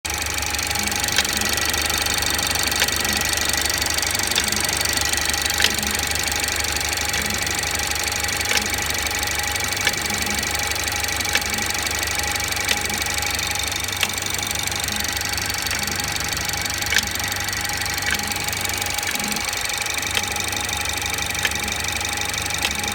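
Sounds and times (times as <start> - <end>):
car engine humming: 0.0 - 22.9
sharp engine clicks: 0.0 - 22.9.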